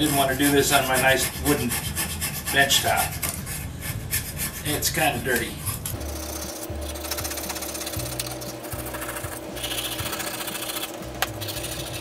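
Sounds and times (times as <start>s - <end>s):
blade scraping rusty steel: 0.0s - 12.0s.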